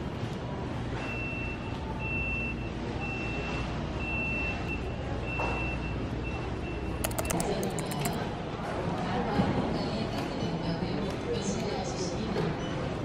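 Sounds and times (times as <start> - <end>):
low steady hum of a warehouse: 0.0 - 13.0.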